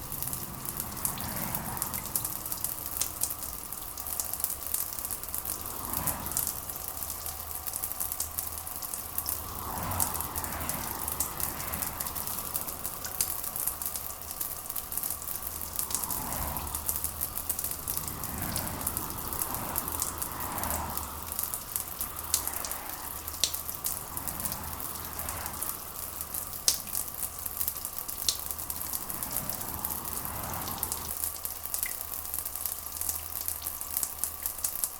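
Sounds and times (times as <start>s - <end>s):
rain patter: 0.0s - 34.9s.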